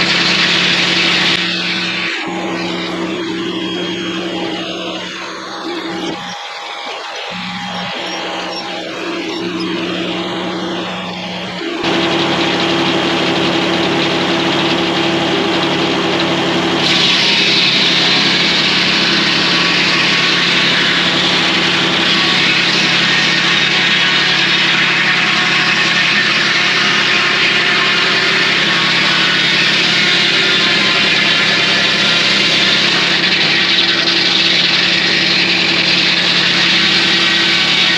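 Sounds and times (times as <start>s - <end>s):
sawmill engine hum: 0.0s - 37.9s.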